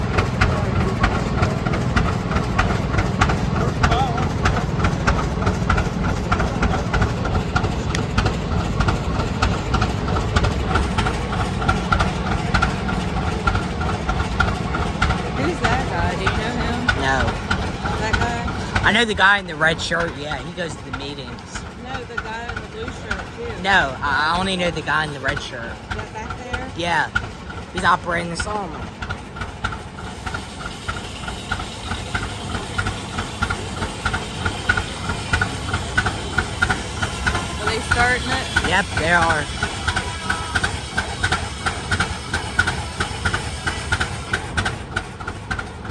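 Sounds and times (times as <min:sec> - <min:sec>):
tractor engine idling: 0:00.0 - 0:45.9.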